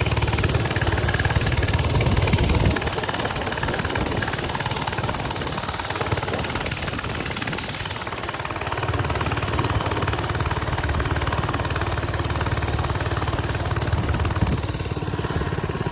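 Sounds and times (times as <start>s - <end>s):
small motorbike engine running: 0.0s - 15.9s.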